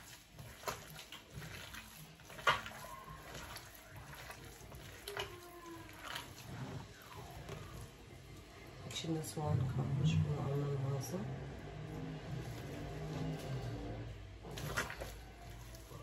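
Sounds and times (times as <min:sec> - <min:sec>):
hands kneading wet mixture: 0:00.0 - 0:16.0.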